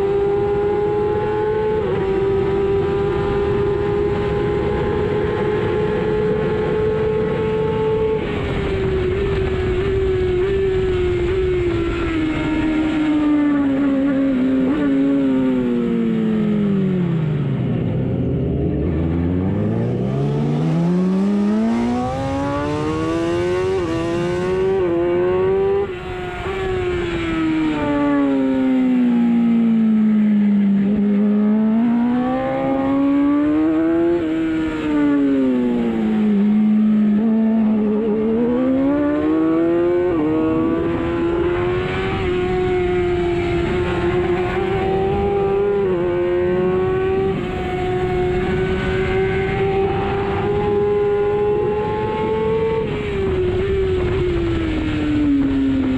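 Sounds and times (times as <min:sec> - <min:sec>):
racing motorcycle engine: 0:00.0 - 0:55.9.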